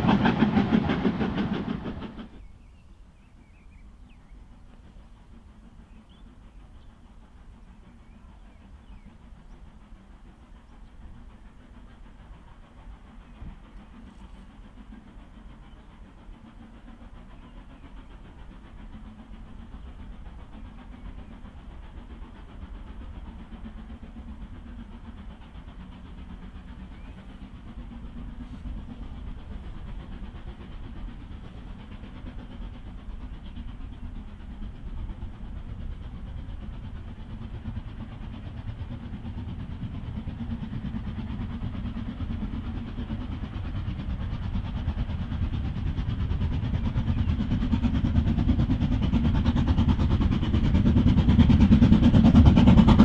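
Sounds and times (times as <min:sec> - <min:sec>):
steam locomotive rumbling: 0:00.0 - 0:53.0.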